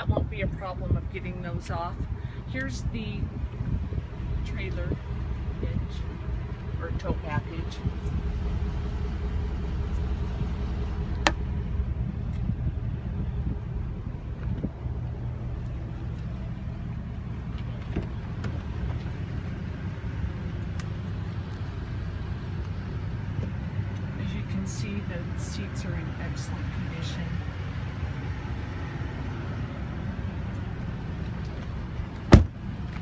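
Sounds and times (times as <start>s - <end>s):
vehicle engine idling: 0.0s - 33.0s.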